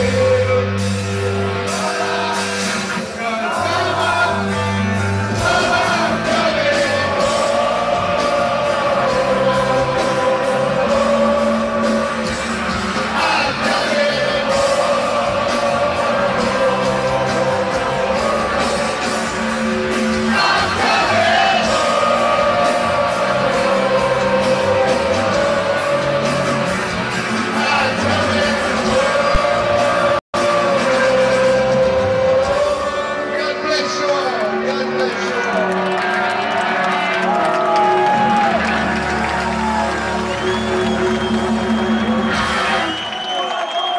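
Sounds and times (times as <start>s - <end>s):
live rock band playing: 0.0s - 33.6s, 37.6s - 43.0s.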